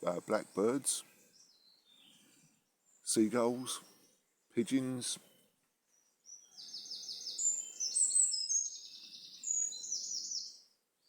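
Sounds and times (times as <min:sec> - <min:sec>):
songbird singing rapid phrases: 0:00.0 - 0:10.7.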